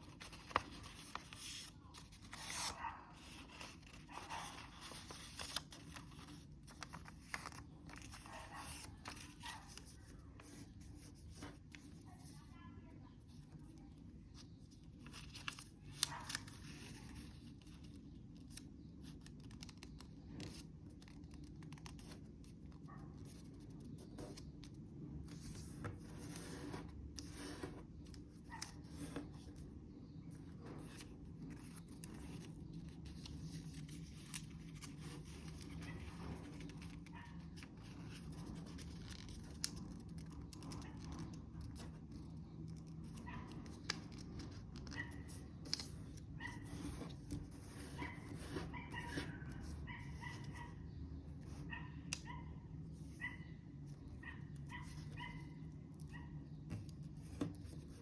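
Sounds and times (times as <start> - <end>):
paper being folded and creased: 0.0 - 12.5, 13.3 - 29.7, 30.5 - 50.6.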